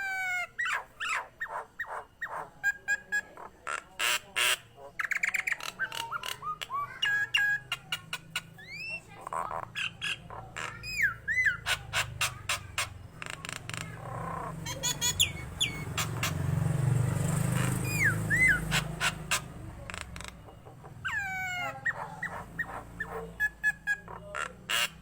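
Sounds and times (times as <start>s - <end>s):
myna calling with clicks and whistles: 0.0s - 25.0s.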